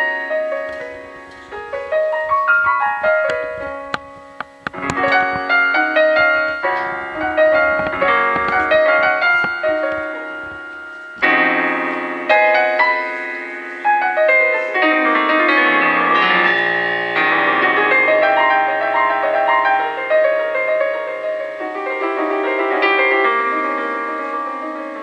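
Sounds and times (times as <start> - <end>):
solo piano classical piece: 0.0 - 25.0.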